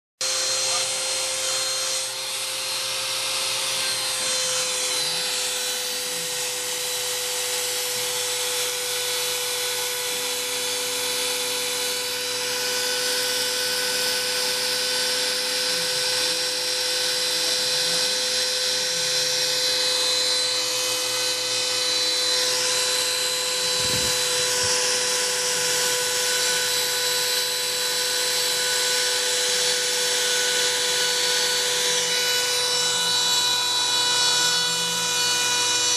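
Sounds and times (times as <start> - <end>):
router spindle whining: 0.2 - 35.9.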